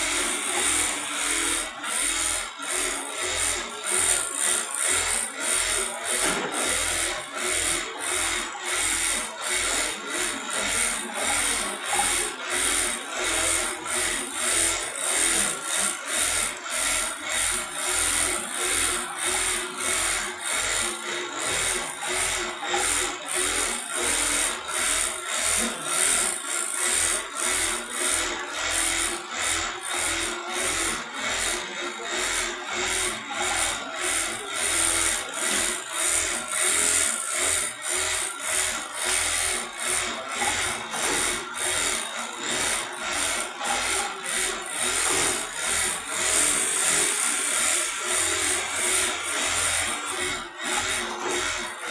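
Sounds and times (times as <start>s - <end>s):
sewing machine rasping rhythmically: 0.0s - 51.9s.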